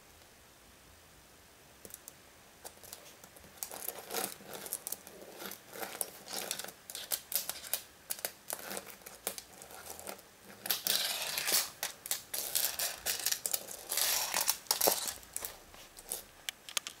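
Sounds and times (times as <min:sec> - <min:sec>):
paper and plastic crinkling: 0:02.7 - 0:17.0.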